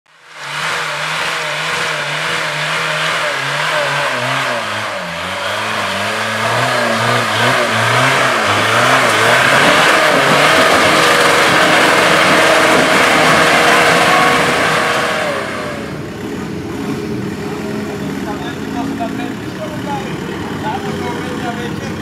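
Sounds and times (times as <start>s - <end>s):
vehicle engine revving: 0.1s - 22.0s.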